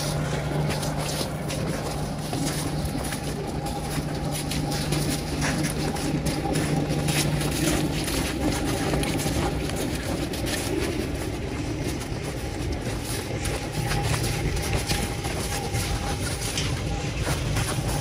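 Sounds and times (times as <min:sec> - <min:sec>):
footsteps crunching on snow: 0:00.0 - 0:18.0
low rumble: 0:00.0 - 0:18.0.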